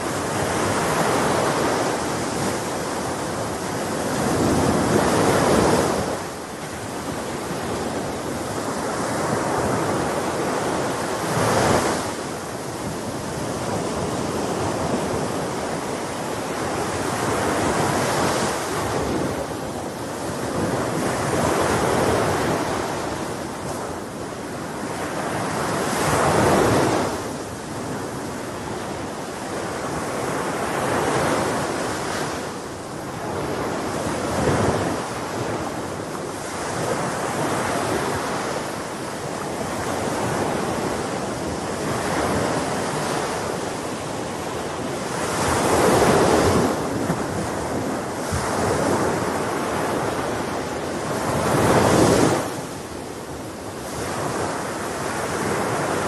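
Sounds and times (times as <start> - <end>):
sea waves surging and washing: 0.0 - 56.0.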